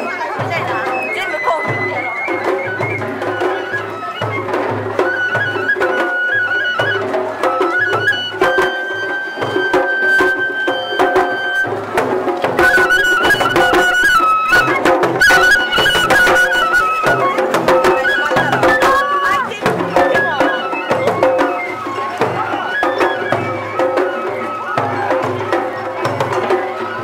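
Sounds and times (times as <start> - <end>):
bamboo flute melody: 0.0 - 27.0
low drum beats: 0.0 - 27.0
sharp percussive strikes: 0.0 - 27.0.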